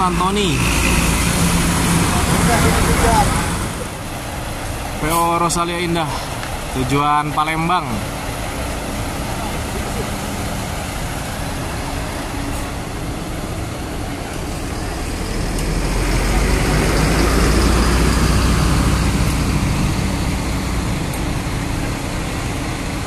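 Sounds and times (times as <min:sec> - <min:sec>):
coach diesel engine driving past: 0:00.0 - 0:23.0.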